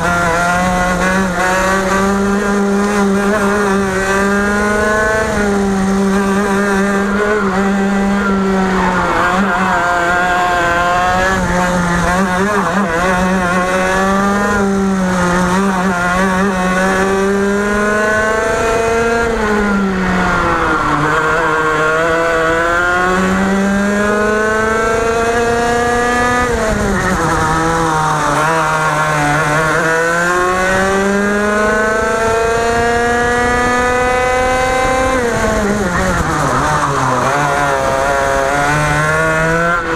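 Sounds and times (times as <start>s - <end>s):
racing kart engine at high revs: 0.0s - 39.9s.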